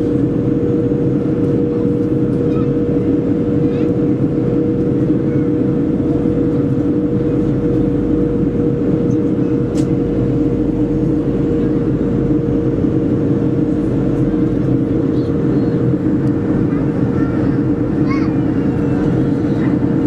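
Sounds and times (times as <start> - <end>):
jet engine drone and airflow: 0.0 - 20.0
steady hum: 0.0 - 20.0.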